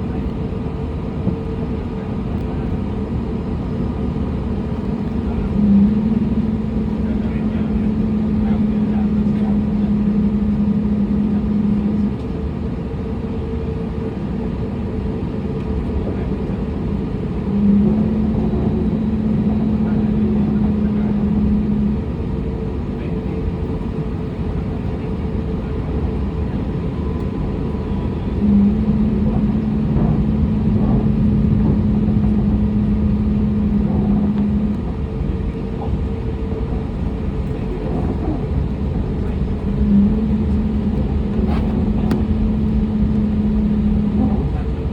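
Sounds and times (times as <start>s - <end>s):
low hum: 0.0s - 44.9s
rumble of engines and air conditioning: 0.0s - 44.9s.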